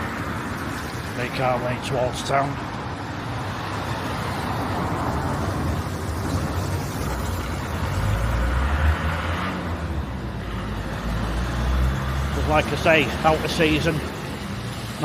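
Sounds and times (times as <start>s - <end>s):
large vehicle engine rumble: 0.0s - 15.0s
road traffic passing: 0.0s - 15.0s.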